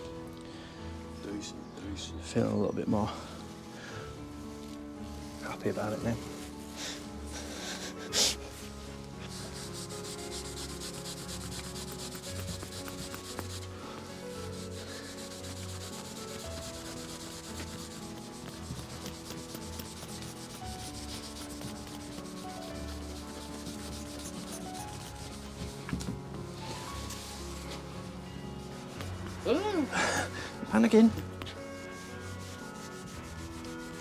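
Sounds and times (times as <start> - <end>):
cloth rubbing on metal: 4.6 - 34.0.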